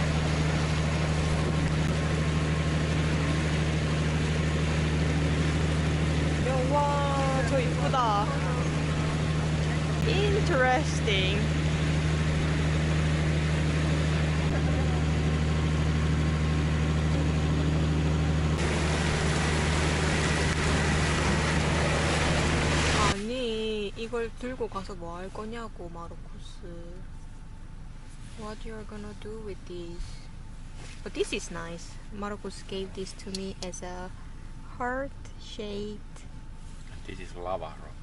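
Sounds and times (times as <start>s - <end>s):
steady engine hum: 0.0s - 38.0s.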